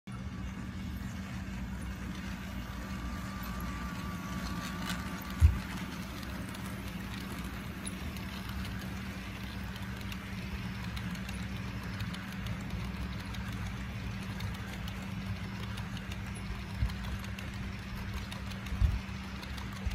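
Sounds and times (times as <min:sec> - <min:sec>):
model train locomotives humming: 0:00.1 - 0:19.9.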